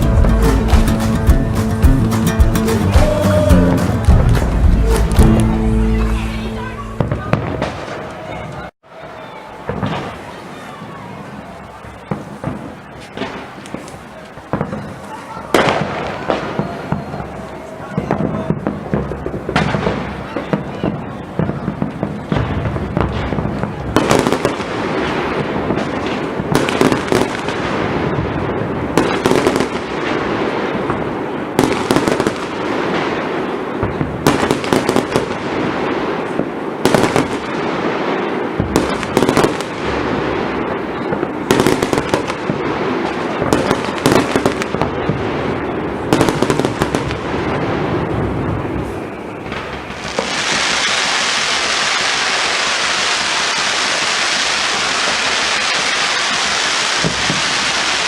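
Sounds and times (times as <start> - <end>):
dense firework crackle: 4.0 - 58.0.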